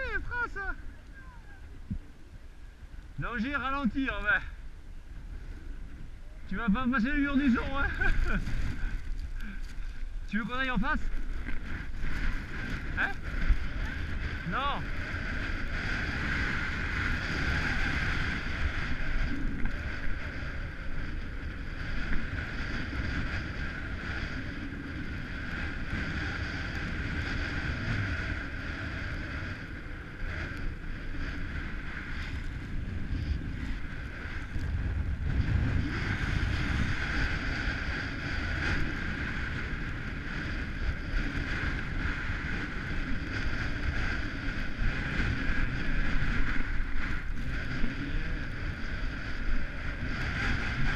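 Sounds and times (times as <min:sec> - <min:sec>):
wind rushing over microphone: 0:00.0 - 0:50.9
skis sliding over snow: 0:06.5 - 0:50.9.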